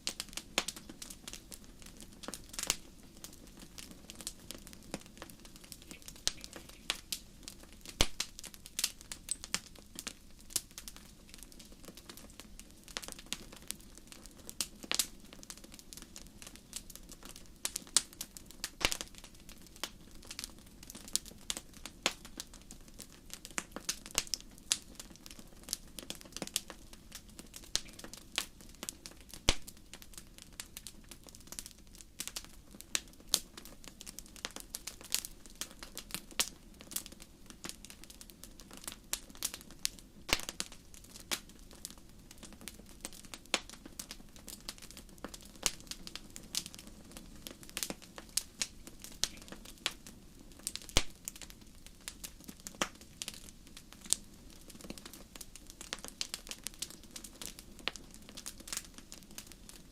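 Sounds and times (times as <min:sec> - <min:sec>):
fire crackling: 0:00.0 - 0:59.9.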